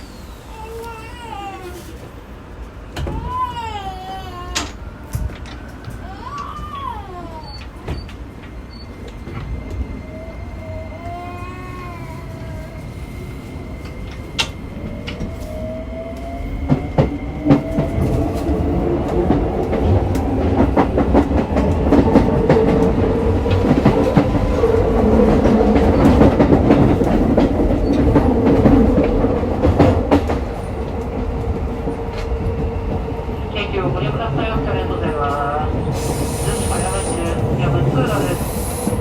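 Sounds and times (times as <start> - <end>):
train running noise: 0.0 - 39.0.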